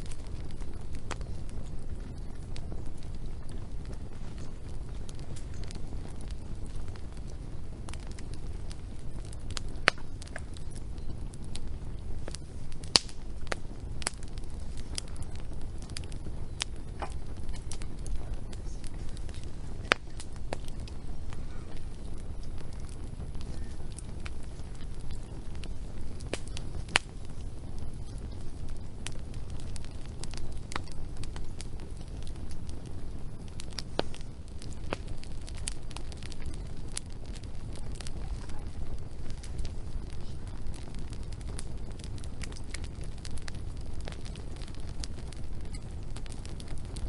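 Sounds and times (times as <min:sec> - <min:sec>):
low steady rumble: 0:00.0 - 0:47.0
wood fire crackling and popping: 0:00.0 - 0:47.0.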